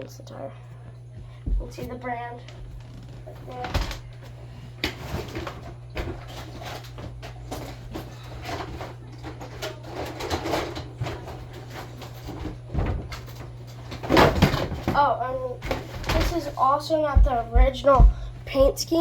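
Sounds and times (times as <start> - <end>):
steady low hum: 0.0 - 19.0
knocks and clatter of handling: 1.1 - 19.0.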